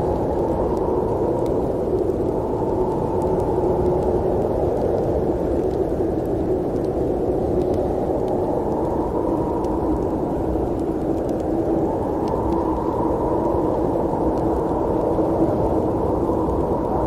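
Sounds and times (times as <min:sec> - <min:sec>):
faint light ticks: 0:00.0 - 0:17.0.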